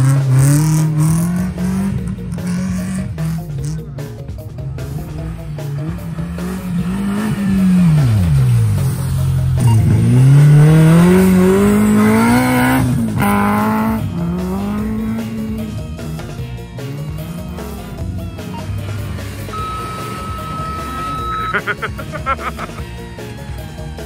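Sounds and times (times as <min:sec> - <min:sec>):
car engine revving: 0:00.0 - 0:23.8.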